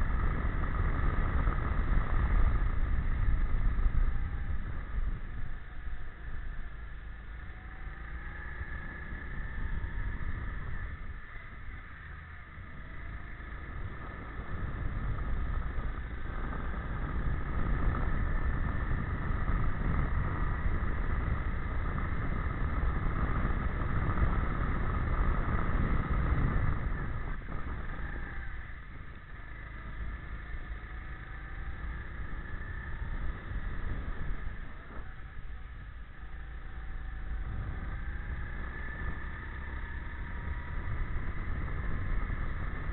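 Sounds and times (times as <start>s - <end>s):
go-kart engine racing: 0.0s - 42.9s
wind rumble on microphone: 0.0s - 42.9s.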